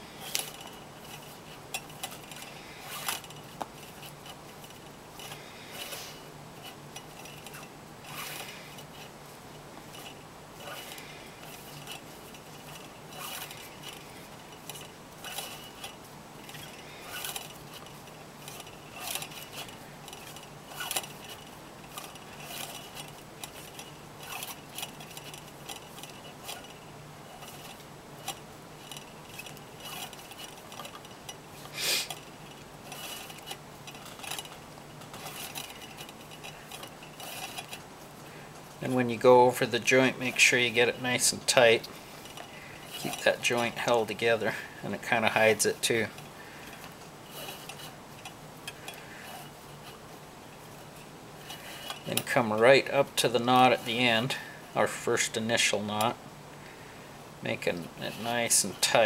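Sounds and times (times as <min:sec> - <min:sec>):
cord rubbing and scraping: 0:00.0 - 0:56.2, 0:57.4 - 0:59.0
steady low hum: 0:00.0 - 0:59.0.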